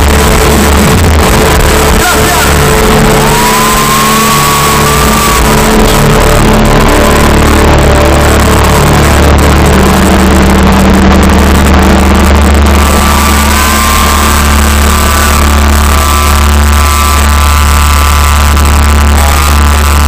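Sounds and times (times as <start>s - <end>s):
held guitar tones: 0.0s - 20.0s
loud live rock band: 0.0s - 20.0s.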